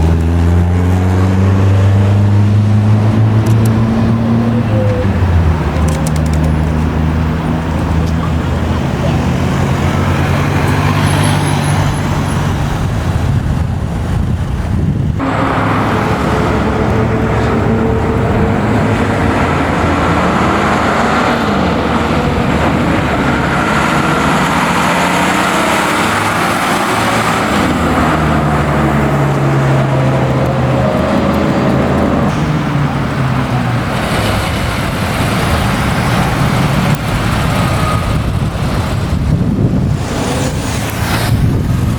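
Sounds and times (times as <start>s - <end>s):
car engines revving and passing: 0.0s - 41.9s.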